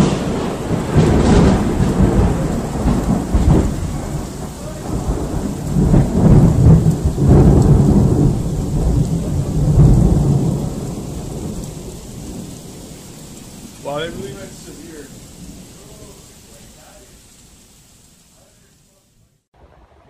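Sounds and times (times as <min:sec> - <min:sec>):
loud thunder rolling: 0:00.0 - 0:17.3
steady rain: 0:00.0 - 0:20.0.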